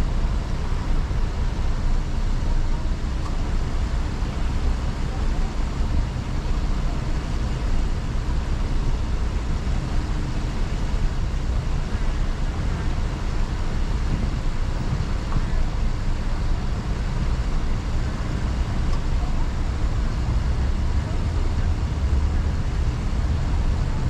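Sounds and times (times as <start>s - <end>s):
car engine running: 0.0s - 24.0s
road noise: 0.0s - 24.0s.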